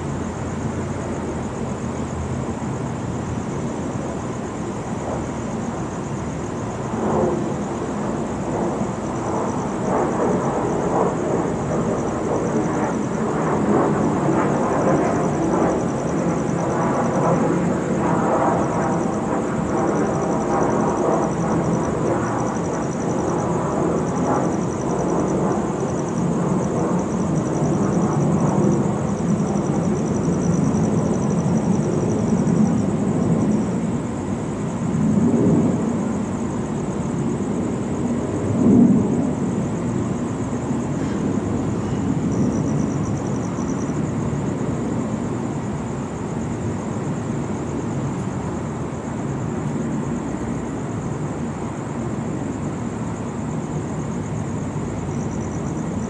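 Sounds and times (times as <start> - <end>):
distant city traffic hum: 0.0 - 56.0
pulsing insect trill: 0.0 - 56.0.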